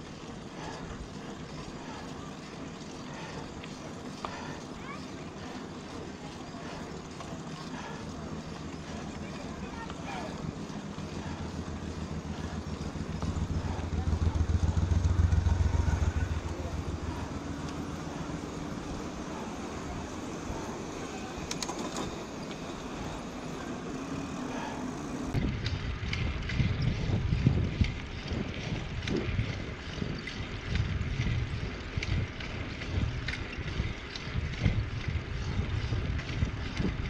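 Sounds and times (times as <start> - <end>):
bike rattling with clicks and knocks: 0.0 - 37.0
road noise: 0.0 - 37.0.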